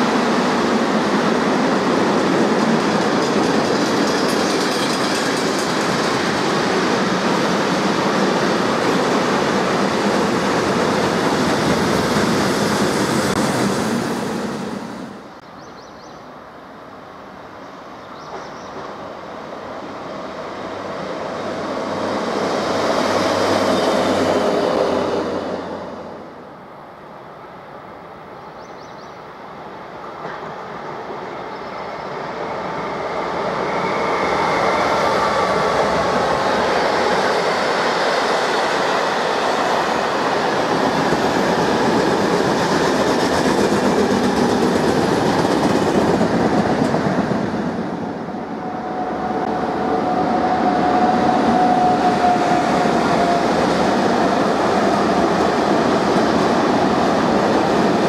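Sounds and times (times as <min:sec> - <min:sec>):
freight train passing: 0:00.0 - 0:58.0
passenger train passing: 0:00.0 - 0:58.0.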